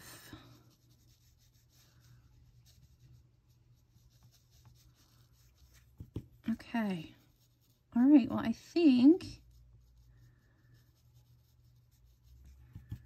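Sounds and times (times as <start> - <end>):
wet brush strokes on paper: 0.0 - 13.0.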